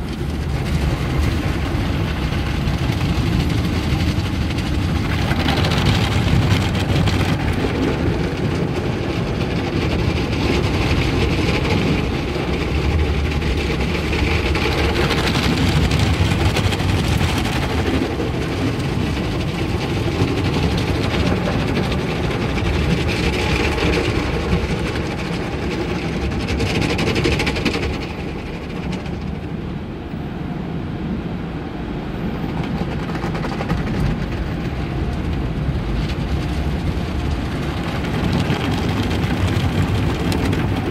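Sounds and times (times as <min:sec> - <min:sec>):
car wash machinery rumble: 0:00.0 - 0:40.9.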